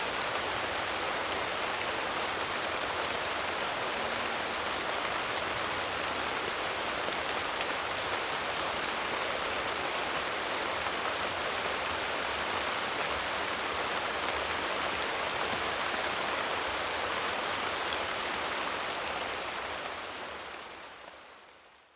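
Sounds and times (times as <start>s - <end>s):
steady rainfall: 0.0s - 21.9s.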